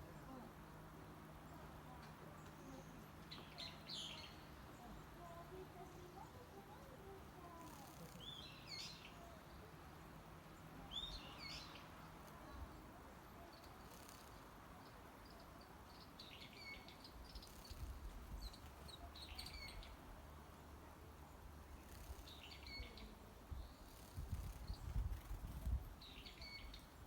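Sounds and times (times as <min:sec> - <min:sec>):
faint wild bird chirps: 0:01.5 - 0:20.2, 0:21.3 - 0:27.0.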